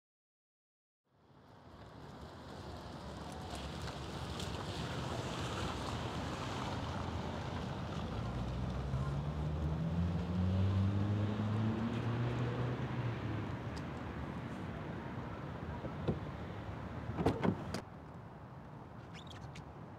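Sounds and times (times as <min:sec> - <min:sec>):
traffic noise: 0:01.2 - 0:19.9
vehicle engine hum: 0:01.8 - 0:17.8.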